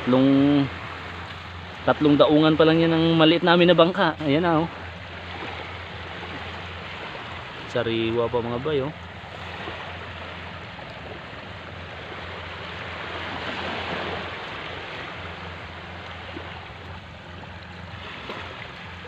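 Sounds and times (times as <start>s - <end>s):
waves washing on sand: 0.0s - 19.0s.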